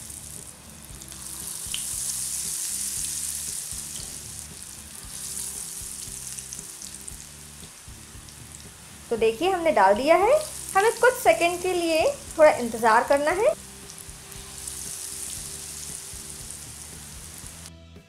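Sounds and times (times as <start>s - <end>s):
food deep-frying in oil: 0.0s - 17.7s.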